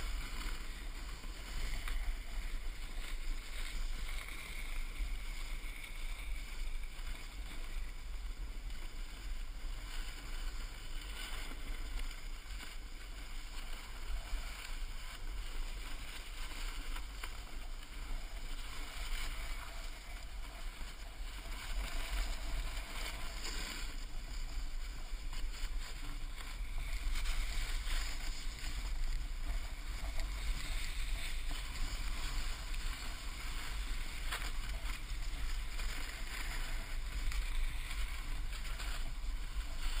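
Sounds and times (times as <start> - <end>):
snowboard scraping over snow: 0.0 - 40.0.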